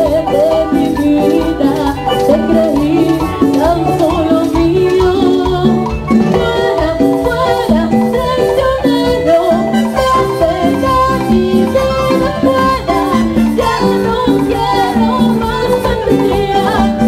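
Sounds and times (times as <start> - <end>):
latin dance band playing: 0.0 - 17.0.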